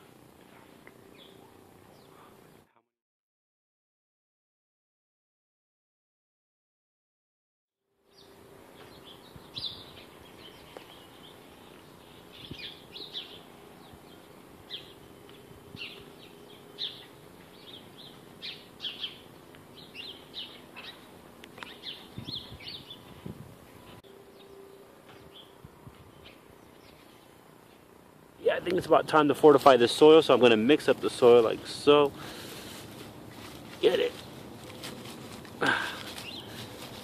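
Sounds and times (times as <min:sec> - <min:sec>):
faint steady hum: 0:00.0 - 0:02.8, 0:07.9 - 0:37.0
small birds chirping: 0:00.6 - 0:02.6, 0:08.1 - 0:37.0.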